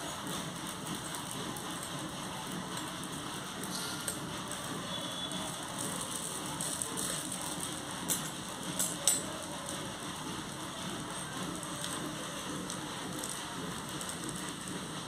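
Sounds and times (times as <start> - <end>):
dosa sizzling on hot iron: 0.0 - 15.0.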